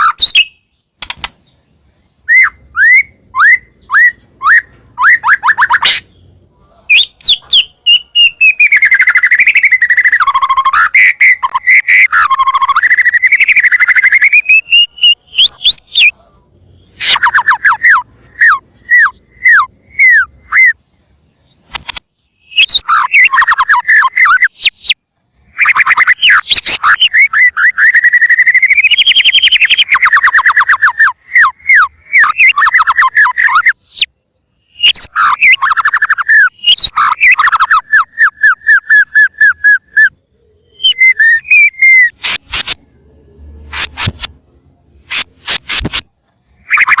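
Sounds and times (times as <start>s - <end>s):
bird singing whistled notes and trills: 0.0s - 47.0s.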